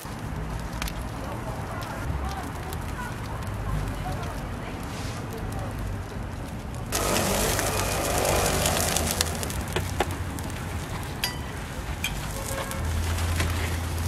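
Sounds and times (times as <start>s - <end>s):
oil sizzling on a griddle: 1.7s - 14.0s.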